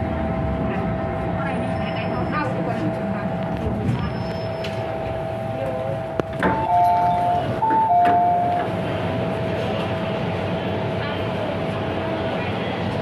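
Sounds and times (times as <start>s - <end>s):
train interior noise with whine: 0.0s - 13.0s.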